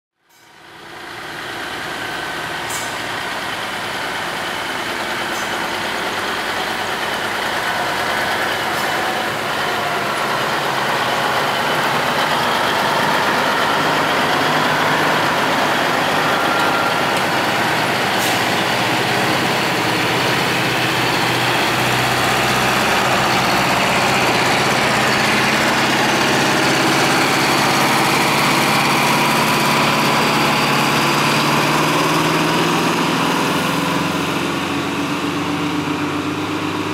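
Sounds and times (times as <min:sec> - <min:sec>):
diesel trucks driving past: 0:00.2 - 0:36.9.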